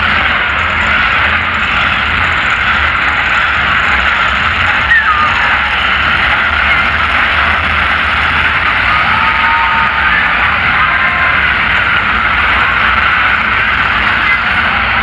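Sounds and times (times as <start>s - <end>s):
large crowd noise: 0.0s - 15.0s
monster truck engines running: 0.0s - 15.0s.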